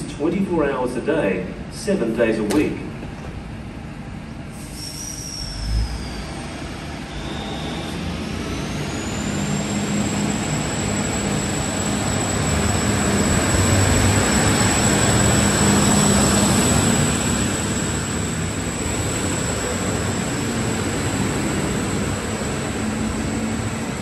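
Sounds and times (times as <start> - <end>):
electric train motor whine: 3.6 - 24.0.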